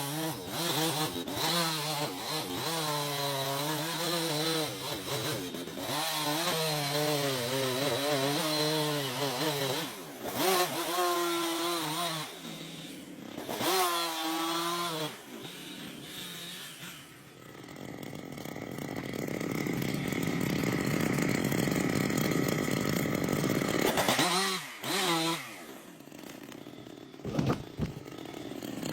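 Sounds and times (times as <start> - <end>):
chainsaw revving: 0.0 - 28.9.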